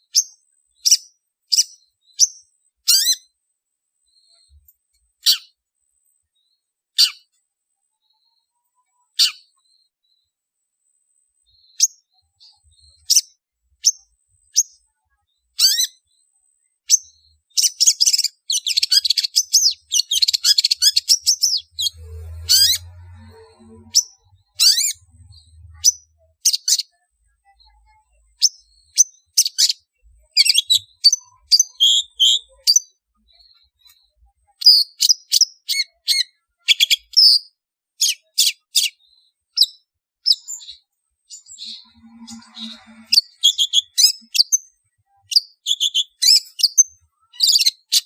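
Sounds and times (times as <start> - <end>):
bird chirps and harsh chatter: 0.0 - 48.0.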